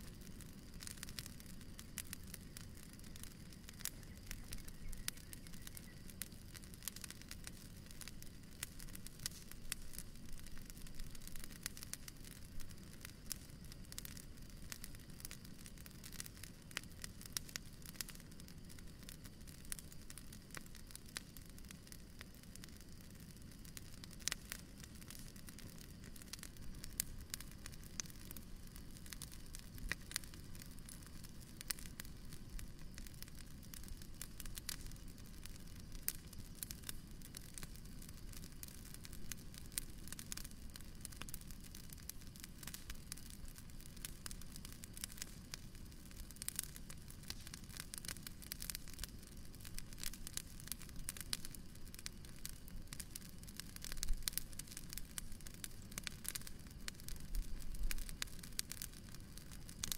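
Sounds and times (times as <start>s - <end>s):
bonfire crackling and popping: 0.0s - 59.9s
low rumble of burning: 0.0s - 59.9s.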